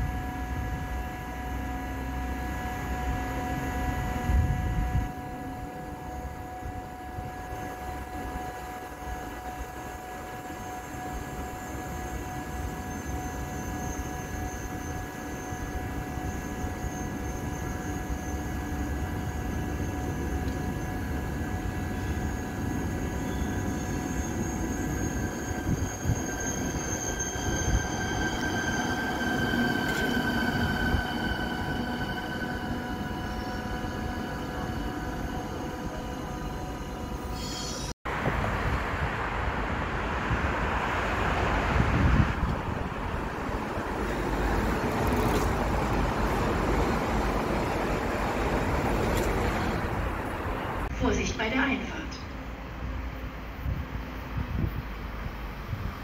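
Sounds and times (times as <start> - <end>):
high electric train whine: 0.0 - 56.0
train rolling rumble: 0.0 - 56.0
train wheels rumbling: 7.9 - 56.0.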